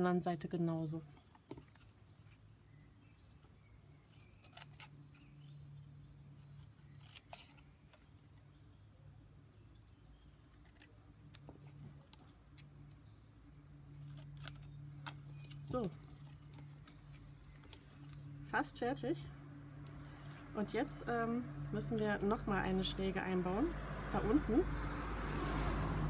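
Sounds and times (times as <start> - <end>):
steady low hum: 1.9 - 26.0.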